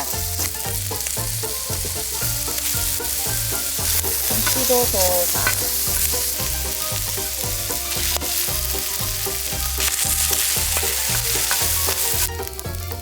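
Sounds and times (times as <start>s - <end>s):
food sizzling in a pan: 0.0s - 13.0s
music with bass beat: 0.0s - 13.0s.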